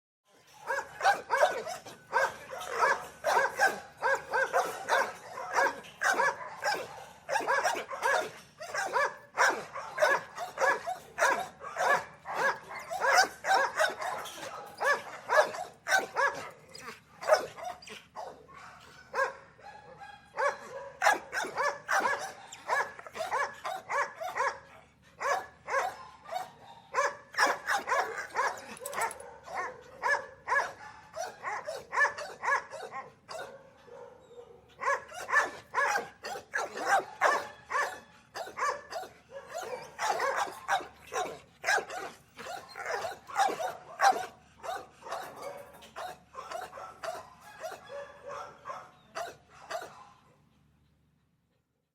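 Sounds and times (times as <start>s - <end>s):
dogs barking: 0.4s - 50.4s.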